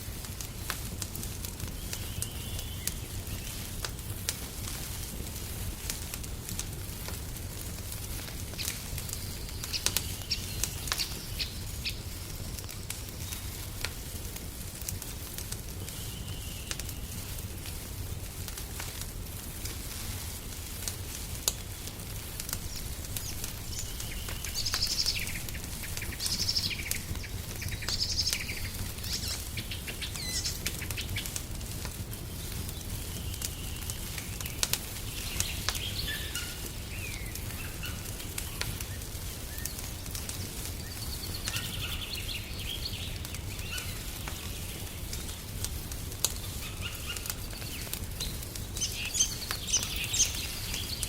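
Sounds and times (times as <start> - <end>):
wood fire crackling: 0.0 - 51.0
small birds chirping: 0.2 - 4.4, 7.8 - 18.1, 21.4 - 51.0.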